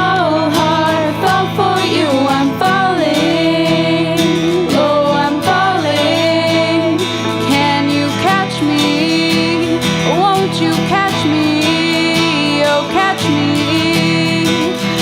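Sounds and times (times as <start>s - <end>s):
pop-rock song with vocals: 0.0s - 15.0s.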